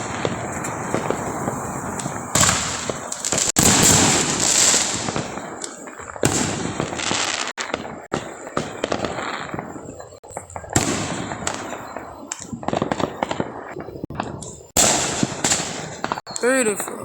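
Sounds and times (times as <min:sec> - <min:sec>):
fireworks bangs: 0:00.0 - 0:17.0
fireworks crackling hiss: 0:00.0 - 0:17.0
sharp fireworks pops: 0:00.0 - 0:17.0.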